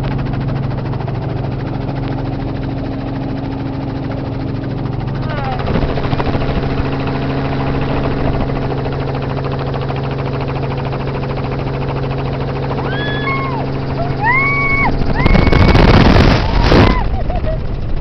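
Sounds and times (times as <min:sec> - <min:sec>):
helicopter engine and rotor drone: 0:00.0 - 0:18.0.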